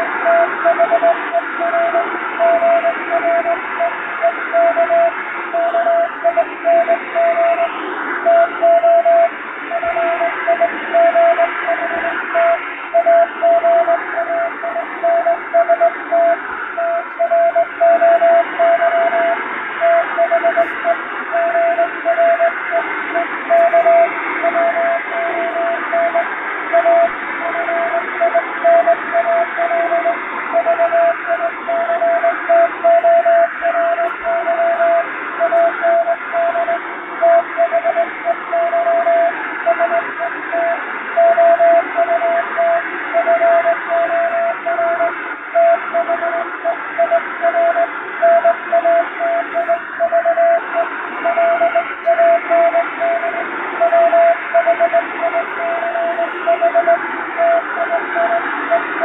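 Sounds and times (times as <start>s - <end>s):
shortwave radio hiss: 0.0s - 59.0s
morse code beeping: 0.3s - 58.8s.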